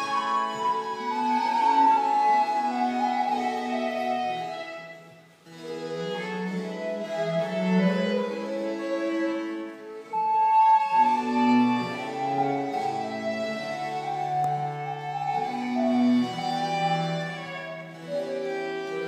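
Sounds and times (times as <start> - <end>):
chamber music ensemble: 0.0 - 19.0.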